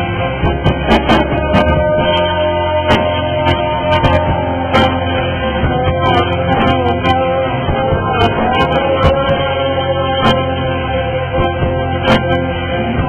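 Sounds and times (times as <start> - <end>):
muffled rock music with guitar: 0.0 - 13.0.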